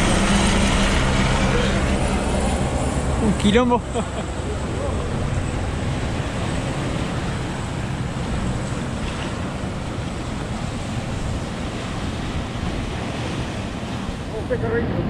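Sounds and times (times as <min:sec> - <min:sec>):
surf breaking on rocks: 0:00.0 - 0:14.8
wind buffeting microphone: 0:00.0 - 0:15.0.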